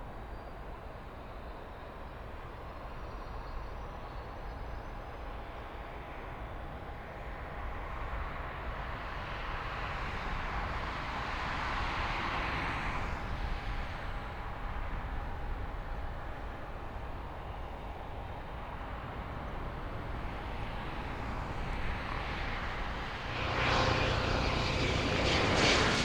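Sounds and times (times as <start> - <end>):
jet engine whine and rush: 0.1 - 26.0.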